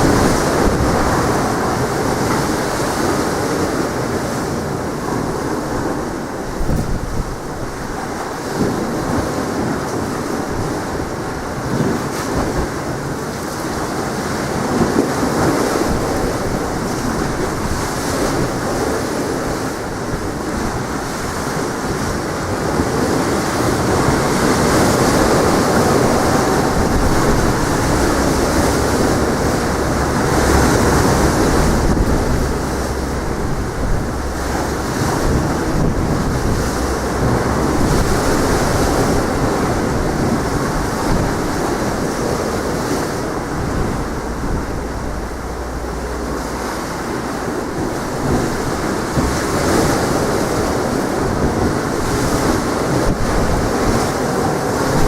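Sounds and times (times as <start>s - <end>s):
sea waves washing on shore: 0.0s - 55.0s
wind buffeting microphone: 0.0s - 55.0s.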